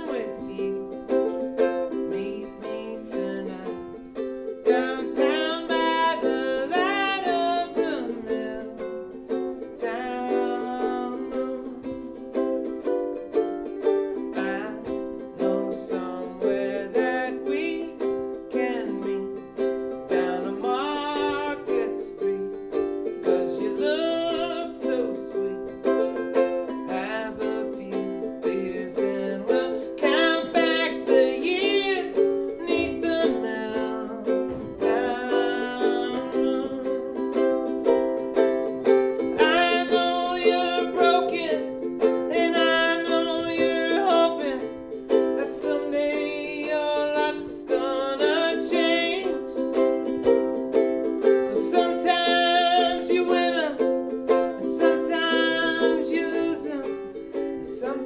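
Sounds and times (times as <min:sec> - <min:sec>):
man singing: 0:00.0 - 0:58.0
ukulele strumming: 0:00.0 - 0:58.0.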